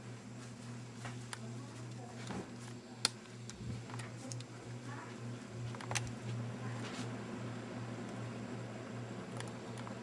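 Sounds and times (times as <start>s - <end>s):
ceiling fan humming: 0.0s - 10.0s.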